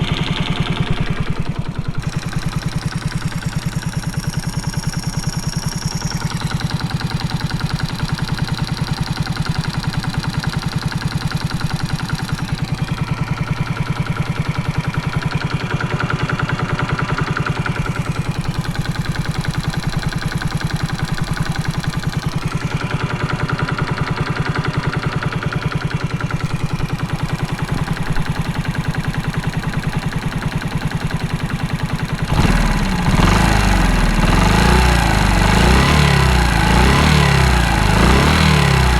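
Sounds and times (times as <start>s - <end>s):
metallic engine knocking: 0.0s - 38.9s
motorcycle engine idling: 0.0s - 38.9s.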